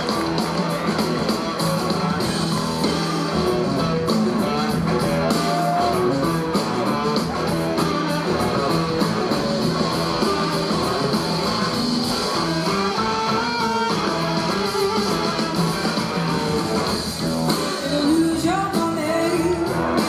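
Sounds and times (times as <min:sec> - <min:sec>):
drums: 0:00.0 - 0:20.0
electric guitars playing: 0:00.0 - 0:20.0.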